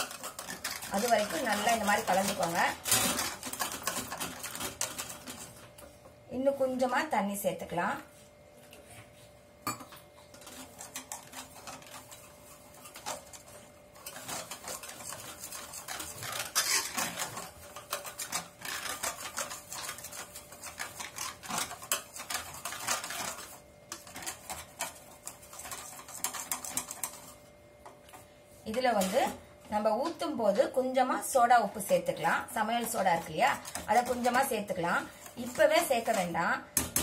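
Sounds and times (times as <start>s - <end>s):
whisk beating batter in metal bowl: 0.0s - 8.1s, 9.7s - 37.0s.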